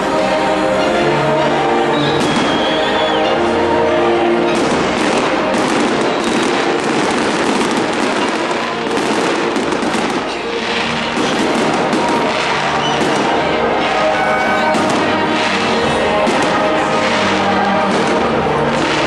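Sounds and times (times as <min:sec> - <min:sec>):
background music: 0:00.0 - 0:19.0
fireworks crackling and popping: 0:02.0 - 0:03.4, 0:04.5 - 0:19.0.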